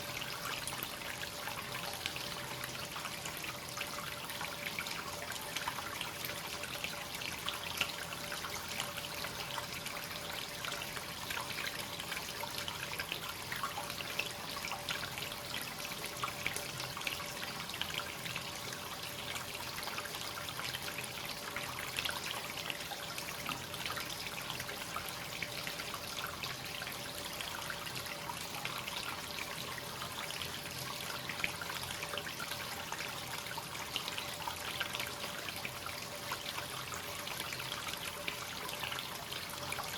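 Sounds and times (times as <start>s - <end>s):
water trickling into a bath: 0.0s - 39.9s.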